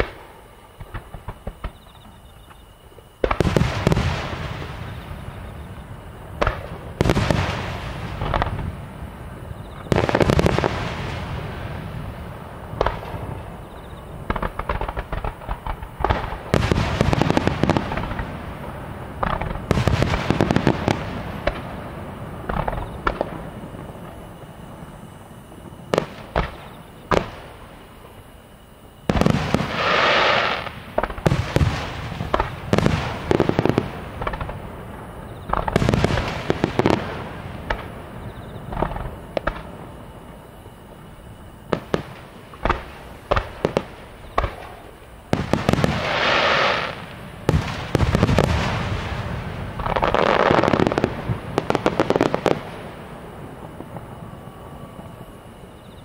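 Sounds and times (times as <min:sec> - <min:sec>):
fireworks bangs: 0:00.0 - 0:28.2, 0:28.9 - 0:56.0
fireworks crackling: 0:00.0 - 0:56.0.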